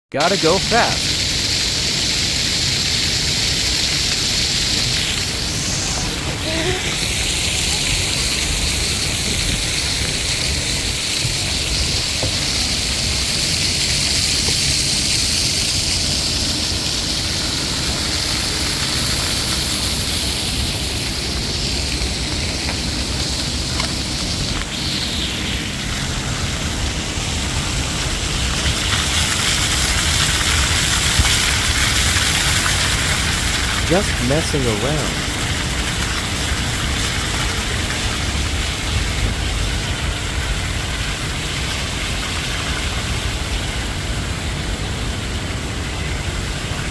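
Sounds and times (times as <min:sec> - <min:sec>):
water fountain splashing: 0:00.2 - 0:46.9.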